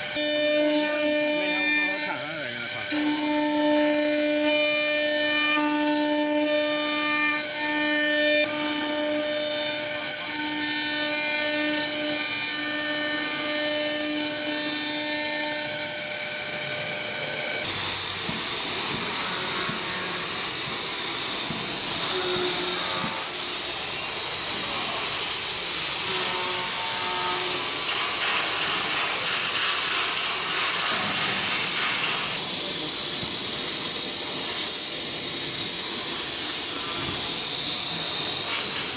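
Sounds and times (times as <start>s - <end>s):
router spindle whining: 0.0s - 29.3s, 30.4s - 38.9s
machine air hiss: 0.0s - 38.9s.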